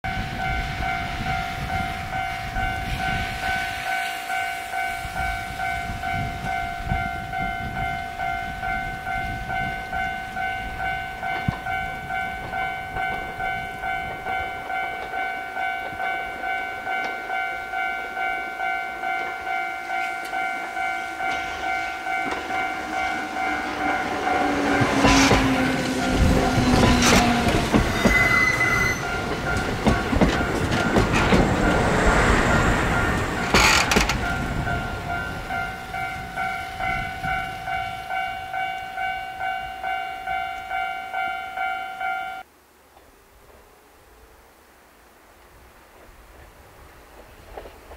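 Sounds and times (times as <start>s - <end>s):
train passing loudly: 0.0s - 42.5s
level crossing bell ringing: 0.1s - 27.0s, 27.9s - 42.4s.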